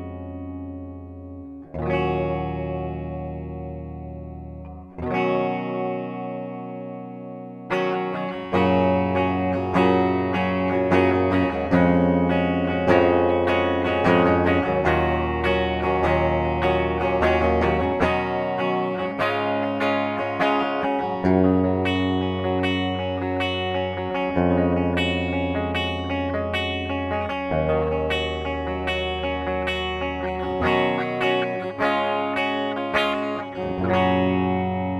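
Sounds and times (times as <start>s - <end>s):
electric guitar playing: 0.0s - 34.9s.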